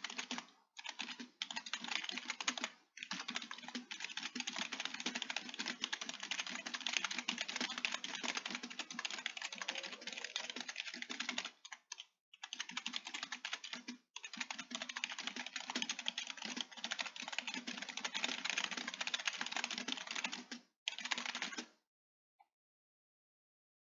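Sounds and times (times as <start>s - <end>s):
computer keyboard typing: 0.0s - 21.7s.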